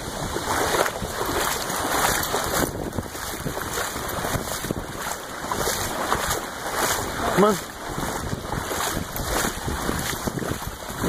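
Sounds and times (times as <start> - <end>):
floodwater sloshing and splashing: 0.0 - 11.0.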